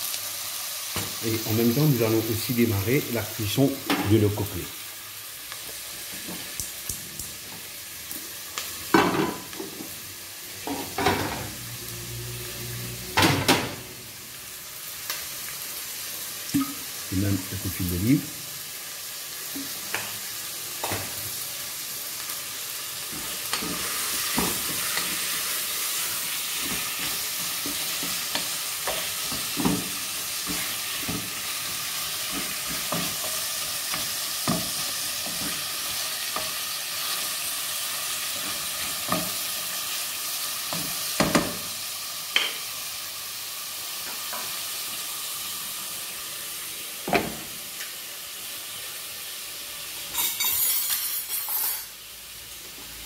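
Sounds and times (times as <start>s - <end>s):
food sizzling in a pot: 0.0s - 53.0s.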